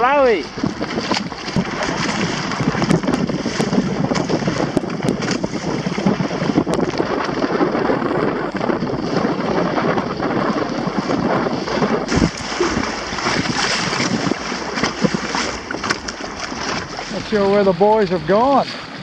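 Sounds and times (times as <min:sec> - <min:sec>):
water rushing: 0:00.0 - 0:19.0
wind buffeting microphone: 0:00.0 - 0:19.0.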